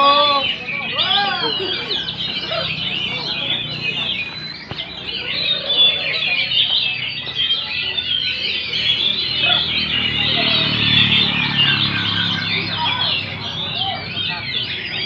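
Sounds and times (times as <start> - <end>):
caged songbirds chorus: 0.0 - 15.0
murmur of voices: 0.0 - 15.0.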